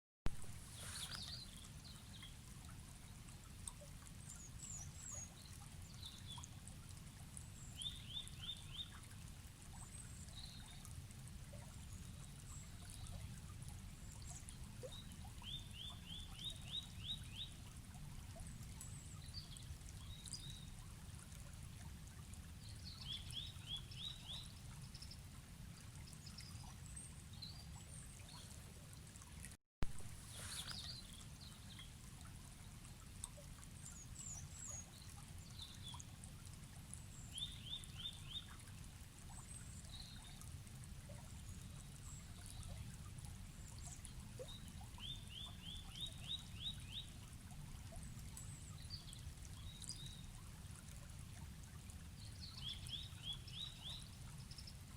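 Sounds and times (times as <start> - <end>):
river running: 0.3 - 10.7, 15.3 - 50.0.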